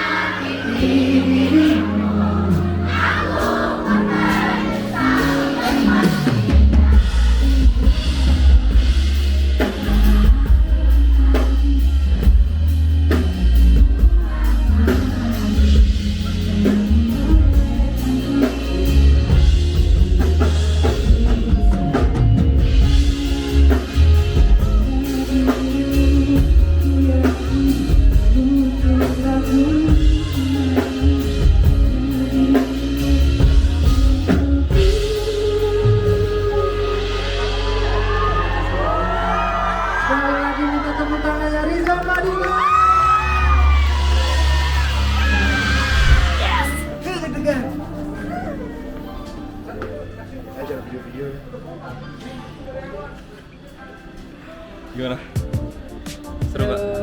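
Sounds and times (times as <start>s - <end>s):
person singing: 0.0s - 47.0s, 55.4s - 57.0s
live band playing pop ballad: 0.0s - 51.2s, 53.2s - 57.0s.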